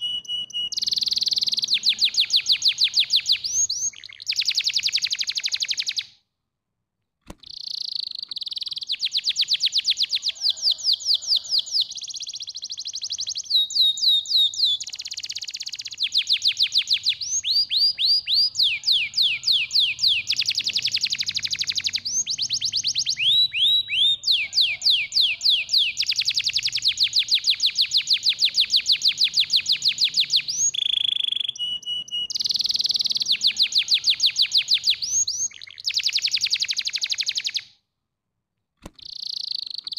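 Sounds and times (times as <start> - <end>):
canary singing rapid trills: 0.0 - 6.1, 7.4 - 37.7, 39.0 - 39.9.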